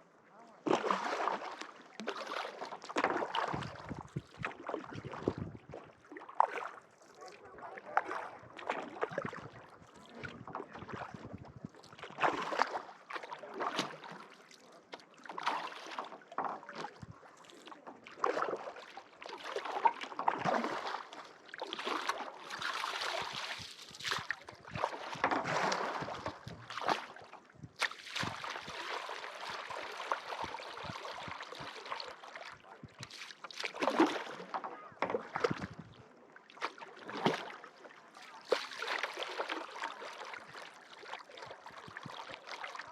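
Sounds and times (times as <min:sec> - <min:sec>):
paddle splashing in water: 0:00.6 - 0:42.9.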